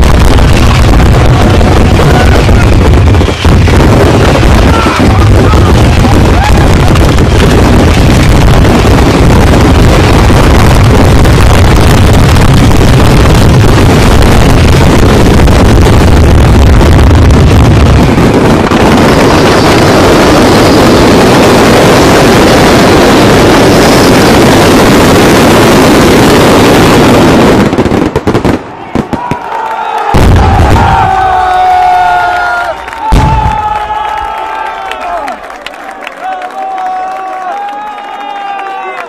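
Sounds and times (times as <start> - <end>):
fireworks exploding: 0.0 - 35.8
crackling roar of fireworks: 0.0 - 39.0.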